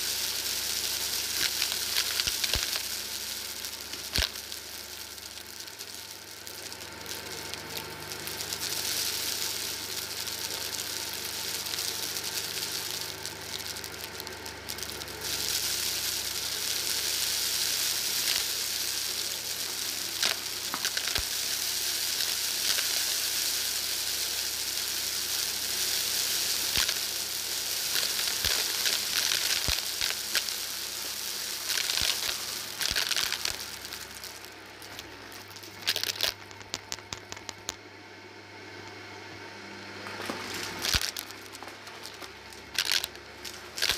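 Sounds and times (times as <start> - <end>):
vacuum cleaner motor hum: 0.0 - 37.4, 38.0 - 43.9
crackling hiss of granules sucked: 0.0 - 37.8, 40.6 - 43.9
sharp ticks of debris: 0.0 - 37.8, 40.8 - 43.9.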